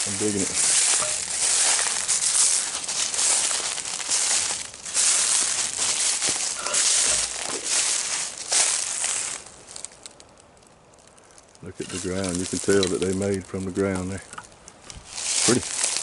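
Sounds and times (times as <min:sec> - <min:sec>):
footsteps crunching through dry leaves: 0:00.0 - 0:10.1, 0:11.6 - 0:16.0.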